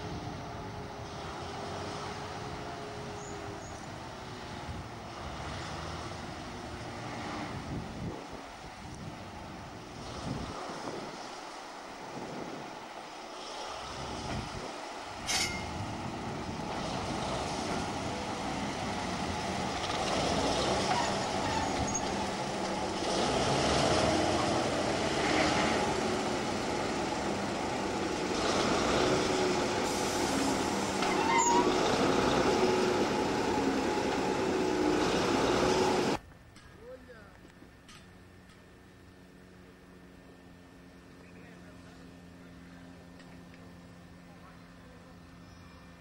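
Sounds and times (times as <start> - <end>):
diesel locomotive engine running: 0.0 - 46.0.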